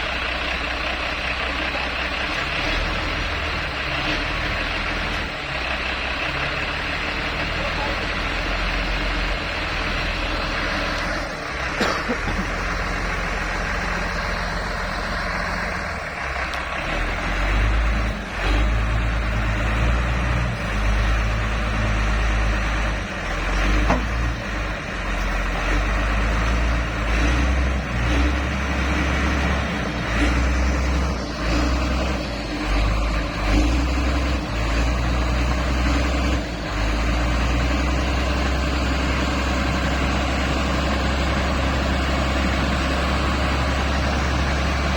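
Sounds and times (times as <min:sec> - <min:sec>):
diesel engine straining: 0:00.0 - 0:44.9.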